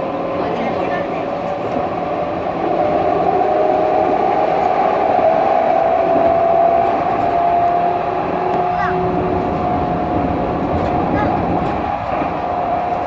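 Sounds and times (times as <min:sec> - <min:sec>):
tram rumbling on track: 0:00.0 - 0:13.0
tram whine: 0:00.0 - 0:13.0.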